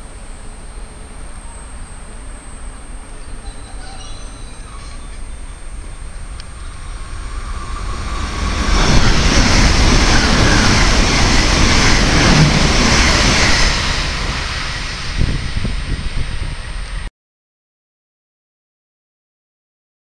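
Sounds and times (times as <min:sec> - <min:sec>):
high-speed train passing: 0:00.0 - 0:17.1.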